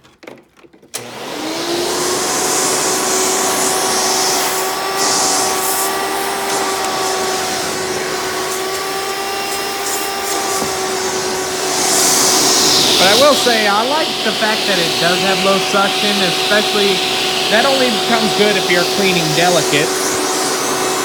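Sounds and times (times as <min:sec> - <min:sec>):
vacuum cleaner motor whining: 0:00.9 - 0:21.0.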